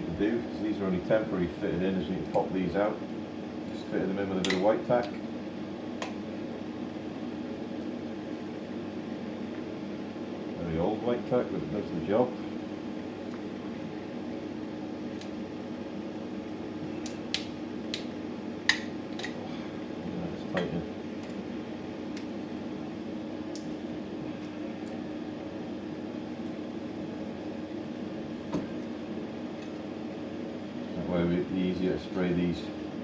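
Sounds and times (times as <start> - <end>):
extractor fan motor hum: 0.0 - 33.0.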